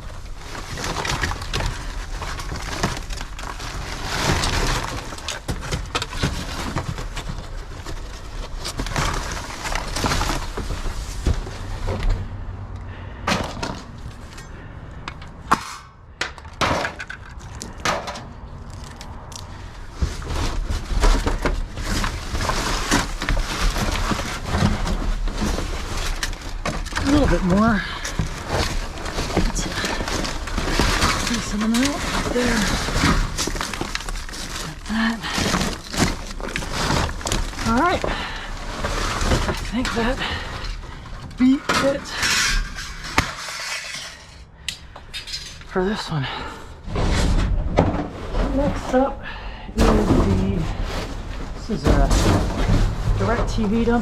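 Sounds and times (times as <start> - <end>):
items knocking and clinking: 0.0 - 12.4, 13.1 - 14.4, 15.0 - 45.7, 46.9 - 54.0
rummaging through cardboard and scrap: 0.0 - 15.8, 16.5 - 44.5, 45.2 - 54.0.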